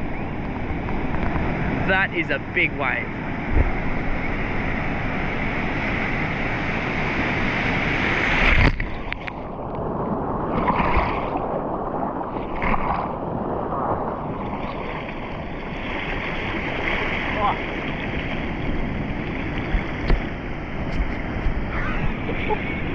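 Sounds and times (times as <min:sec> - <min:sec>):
churning water surges: 0:00.0 - 0:22.9
ocean wave breaking on rocks: 0:00.3 - 0:22.9.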